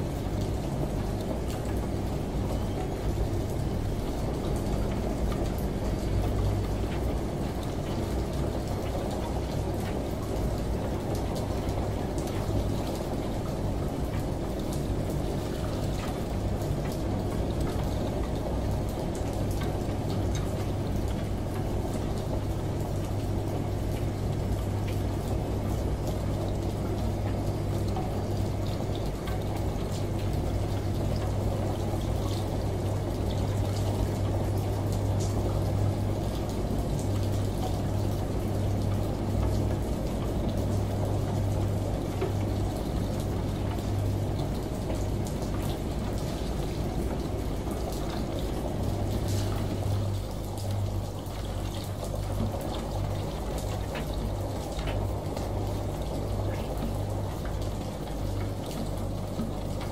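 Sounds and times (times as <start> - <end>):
washing machine hum: 0.0 - 59.9
water drip ticks: 0.0 - 59.9
shower water rushing: 4.2 - 59.9.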